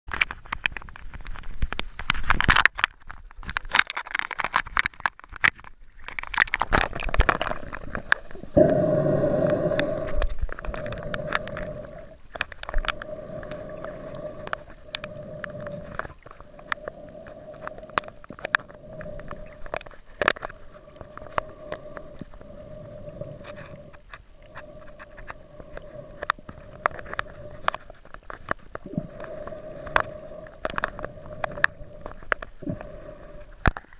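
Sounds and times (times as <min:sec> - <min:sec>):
underwater clicks: 0:00.1 - 0:33.9
water splashing against camera: 0:00.1 - 0:33.9.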